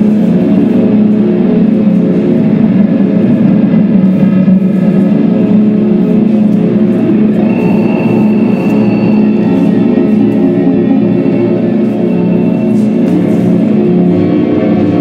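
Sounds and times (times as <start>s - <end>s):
sustained drone music: 0.0s - 15.0s.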